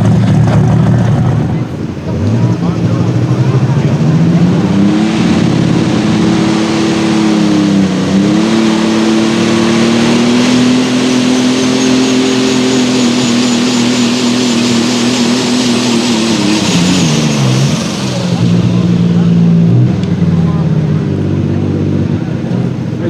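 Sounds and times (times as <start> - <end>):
tractor diesel engine at high revs: 0.0 - 23.0.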